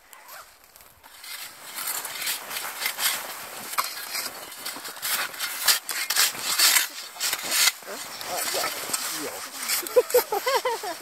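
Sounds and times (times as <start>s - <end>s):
footsteps crunching on snow: 0.1s - 11.0s.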